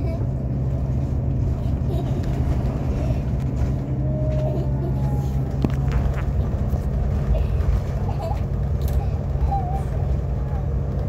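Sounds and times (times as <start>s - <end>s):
bus engine and road noise: 0.0s - 11.0s
faint rattles: 0.0s - 11.0s.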